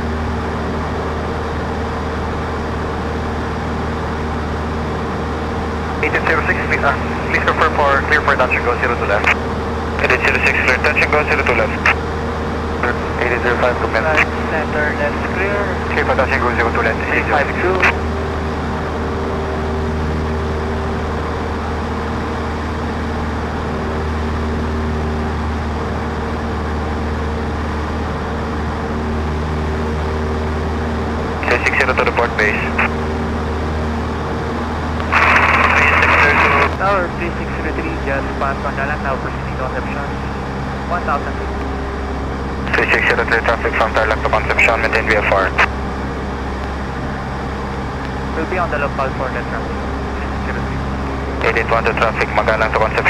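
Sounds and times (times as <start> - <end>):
light aircraft engine droning: 0.0 - 53.0.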